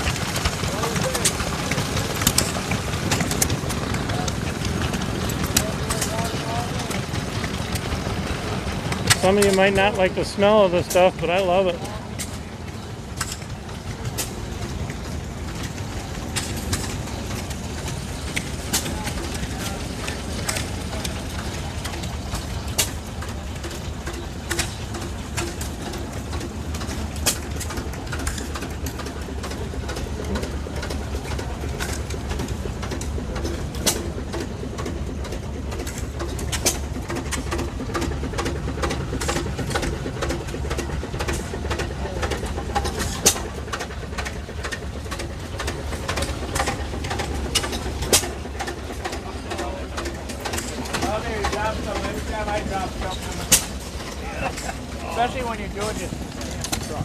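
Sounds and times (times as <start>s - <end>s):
farm engines chugging: 0.0s - 57.0s.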